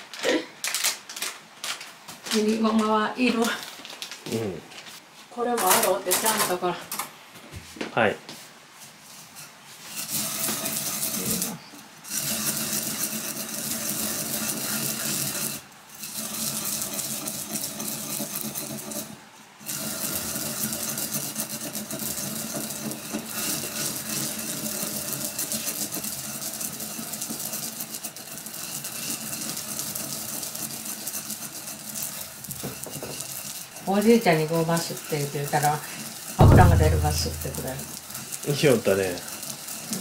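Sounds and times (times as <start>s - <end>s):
seeds scraping and rattling in a pot: 0.0s - 6.7s, 9.1s - 36.4s, 37.3s - 40.0s.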